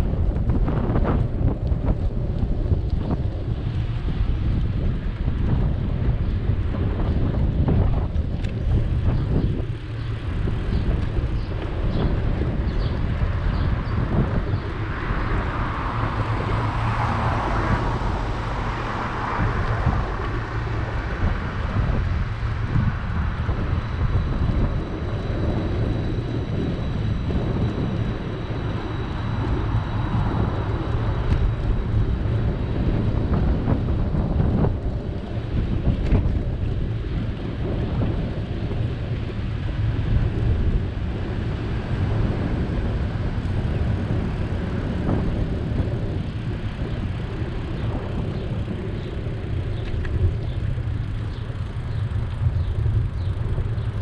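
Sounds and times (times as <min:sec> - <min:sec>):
street traffic rushing: 0:00.0 - 0:54.0
wind buffeting microphone: 0:00.0 - 0:54.0.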